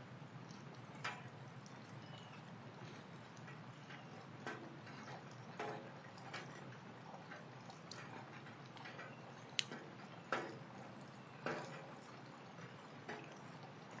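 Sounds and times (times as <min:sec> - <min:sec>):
water dripping: 0:00.0 - 0:14.0.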